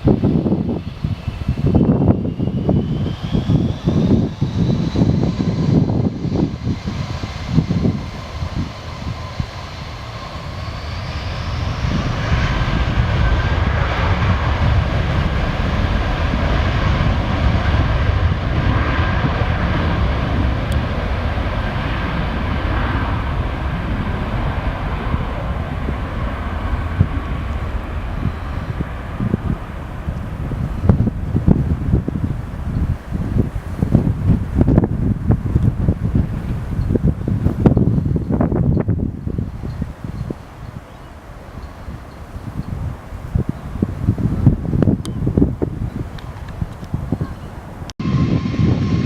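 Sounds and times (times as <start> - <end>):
airliner engine whine: 0.0 - 49.0
wind buffeting microphone: 0.0 - 49.0.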